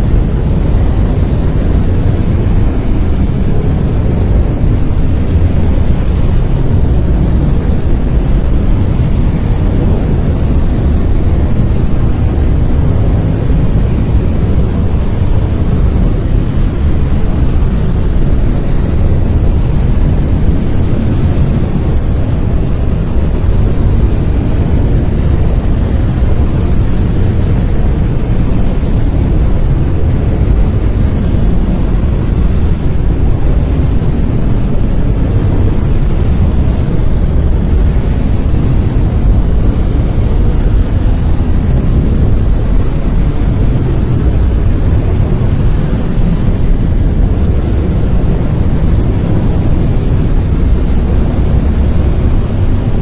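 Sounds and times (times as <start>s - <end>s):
brown noise: 0.0s - 53.0s.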